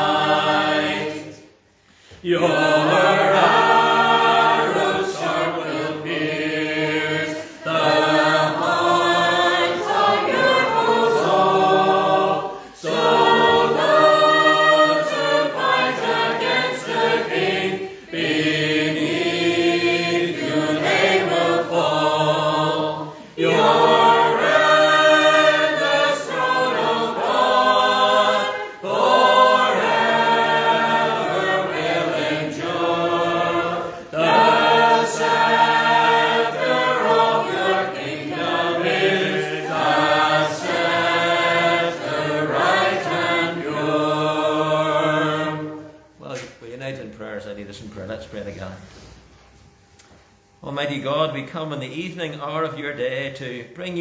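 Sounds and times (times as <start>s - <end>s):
congregation singing unaccompanied: 0.0s - 46.4s.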